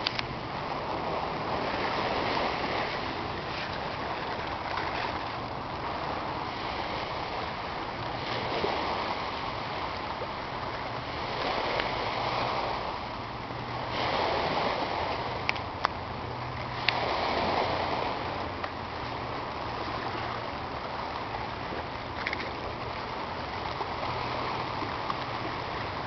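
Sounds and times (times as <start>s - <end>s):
small waves washing over rocks: 0.0s - 26.0s.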